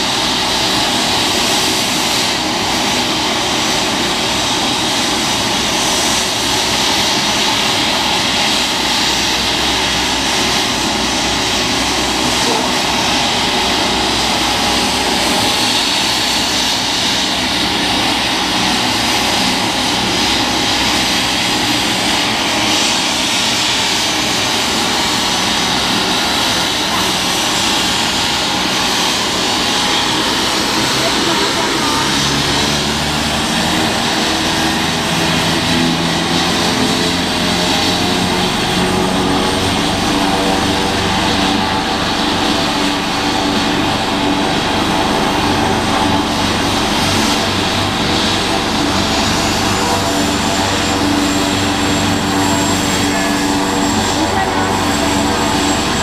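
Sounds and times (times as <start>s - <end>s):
helicopter turbine engine whine: 0.0s - 56.0s.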